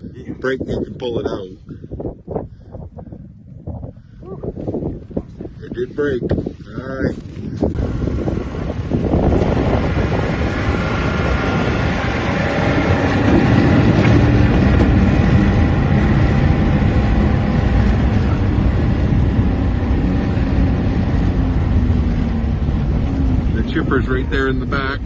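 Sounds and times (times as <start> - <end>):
gusting wind buffeting microphone: 0.0 - 25.0.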